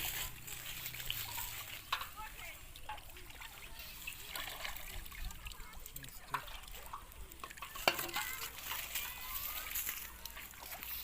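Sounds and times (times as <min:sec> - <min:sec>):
shallow water trickling: 0:00.0 - 0:11.0.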